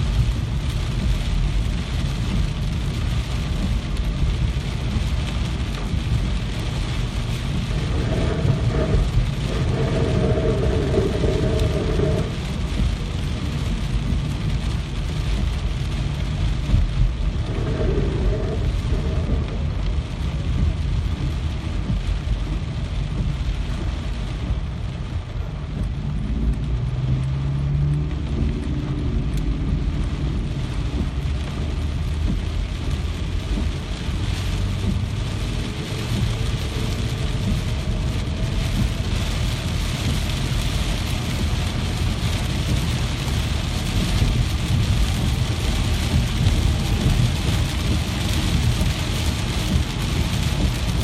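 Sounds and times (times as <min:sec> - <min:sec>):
low rumble: 0:00.0 - 0:51.0
steady rain: 0:00.0 - 0:51.0.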